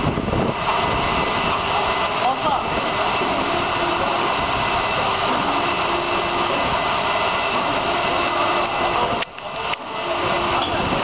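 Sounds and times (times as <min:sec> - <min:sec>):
industrial machinery roar: 0:00.0 - 0:11.0.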